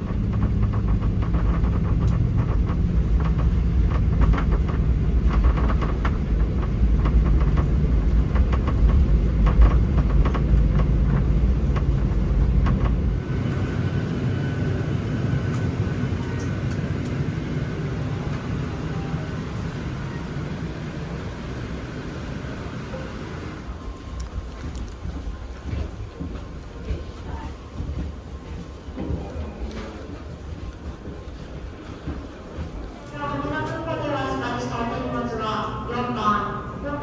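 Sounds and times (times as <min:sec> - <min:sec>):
wheel and engine rumble: 0:00.0 - 0:34.9
jet engine whine: 0:00.0 - 0:37.0.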